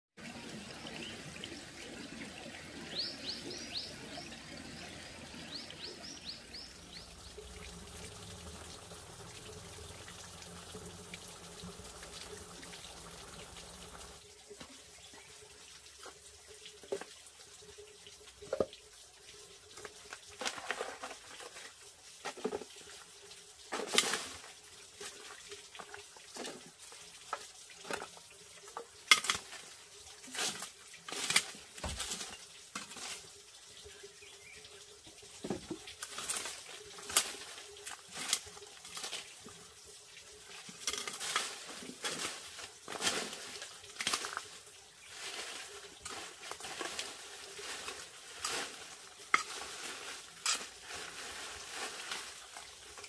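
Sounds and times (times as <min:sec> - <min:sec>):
running water: 0:00.2 - 0:53.0.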